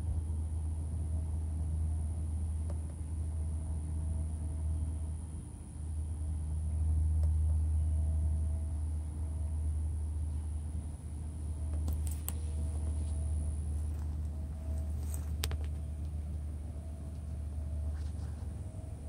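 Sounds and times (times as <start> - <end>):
faint high-pitched whine: 0.0 - 19.0
low background rumble: 0.0 - 19.0.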